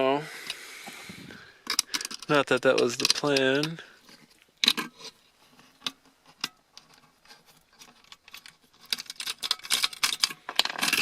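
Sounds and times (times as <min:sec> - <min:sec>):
small metal parts clicking and rattling: 0:01.6 - 0:11.0.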